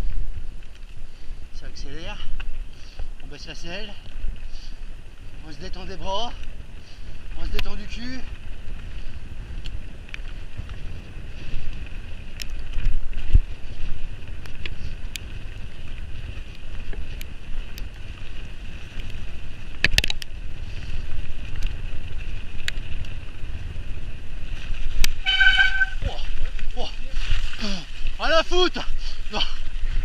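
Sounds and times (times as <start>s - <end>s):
bike clicks and rattles: 0.0s - 30.0s
wind rushing over microphone: 0.0s - 30.0s
tyres rolling through mud: 2.4s - 30.0s.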